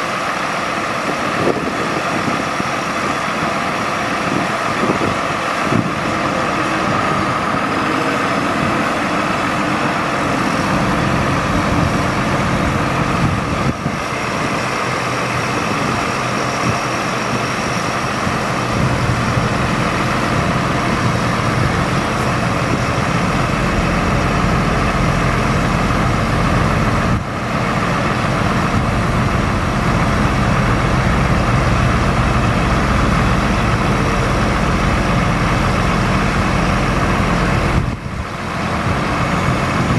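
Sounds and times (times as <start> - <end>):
crane hydraulics moving: 0.0 - 39.9
truck engine running: 0.0 - 39.9.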